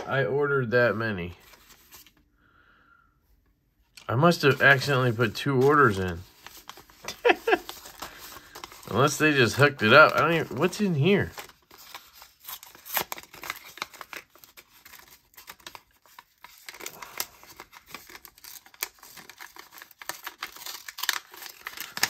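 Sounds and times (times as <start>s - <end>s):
paper rustling and crinkling: 1.2s - 2.2s, 4.0s - 22.0s
paper envelope tearing: 4.2s - 22.0s.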